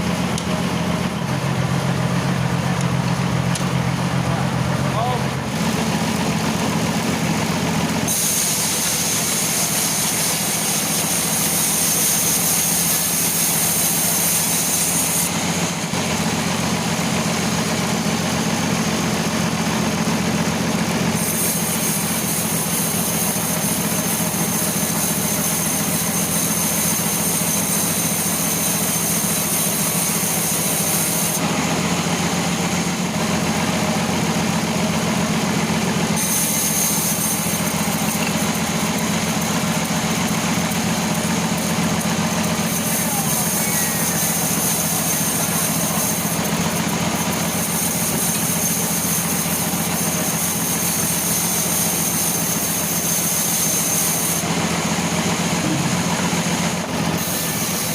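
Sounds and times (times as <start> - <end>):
machine saw running: 0.0 - 57.9
high saw whine and hiss: 5.5 - 57.9.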